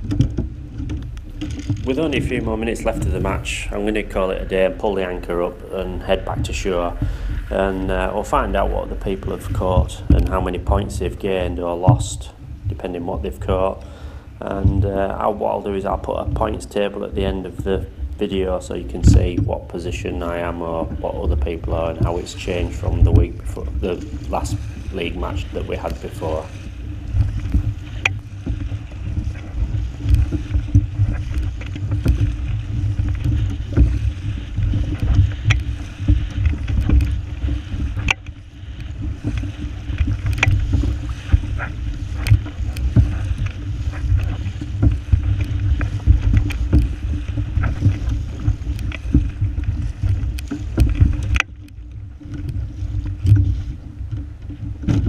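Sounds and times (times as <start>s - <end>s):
heavy low rumble: 0.0s - 55.0s
paddle strokes splashing: 0.0s - 55.0s.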